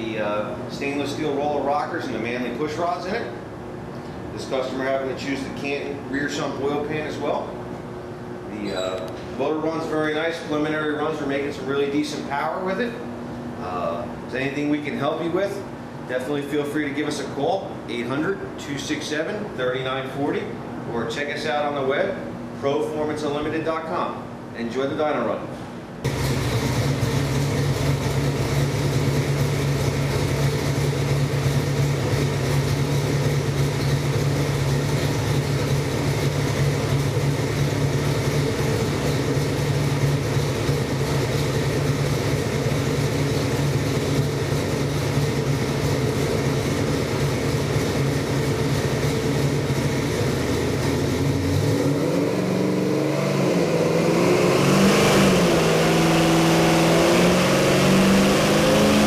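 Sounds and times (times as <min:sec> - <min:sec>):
engine running on dyno: 0:00.0 - 0:24.2, 0:25.6 - 0:59.0.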